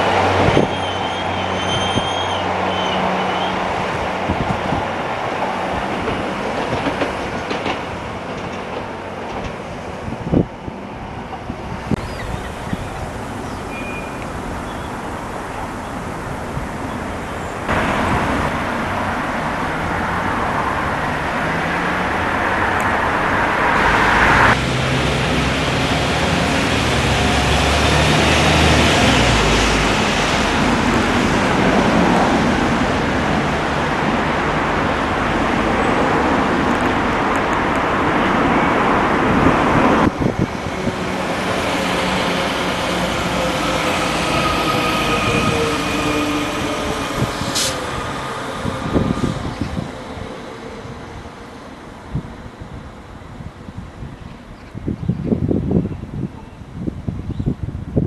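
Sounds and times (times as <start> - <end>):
road traffic passing: 0.0 - 56.9.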